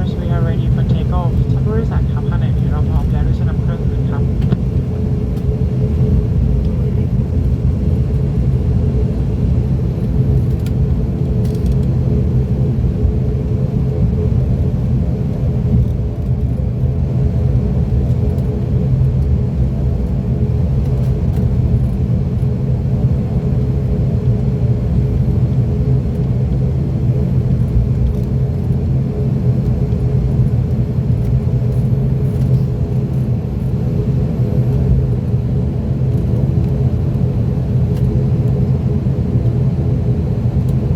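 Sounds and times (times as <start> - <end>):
turboprop engine drone in cabin: 0.0 - 40.9.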